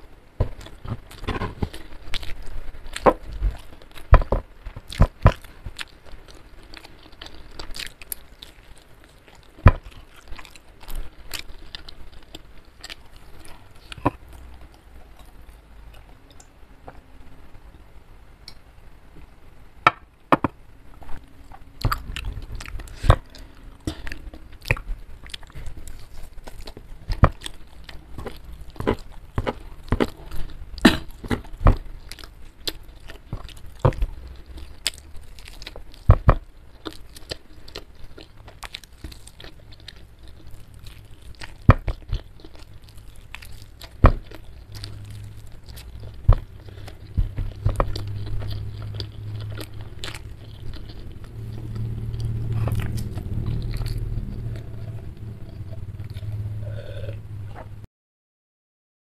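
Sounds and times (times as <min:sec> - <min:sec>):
chewing and biting: 0:00.4 - 0:16.1, 0:21.1 - 0:57.7
sharp clicks and crunches: 0:00.4 - 0:17.0, 0:19.9 - 0:56.4.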